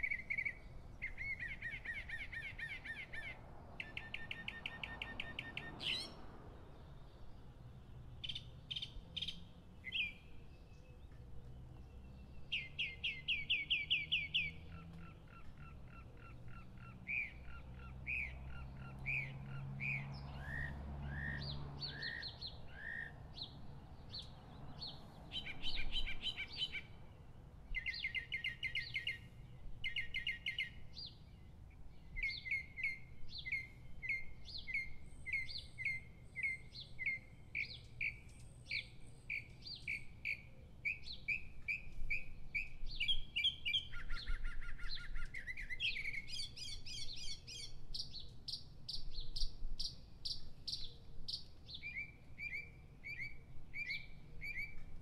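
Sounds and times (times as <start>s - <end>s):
mockingbird singing: 0.0s - 6.2s, 8.2s - 27.0s, 27.7s - 31.2s, 31.9s - 55.0s.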